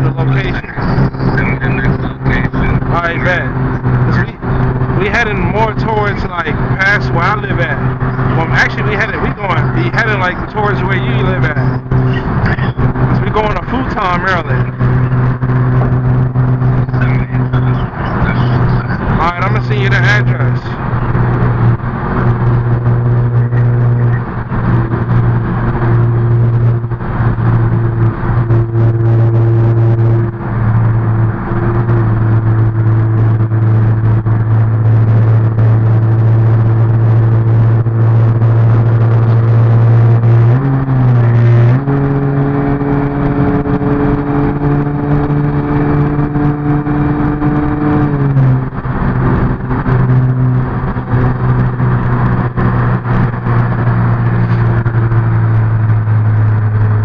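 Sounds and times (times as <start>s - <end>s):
car engine droning inside cabin: 0.0s - 57.0s.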